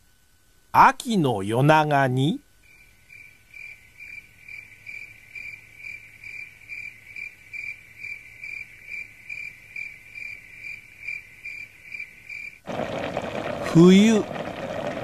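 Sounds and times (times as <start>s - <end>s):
cricket chirping: 2.5s - 15.0s.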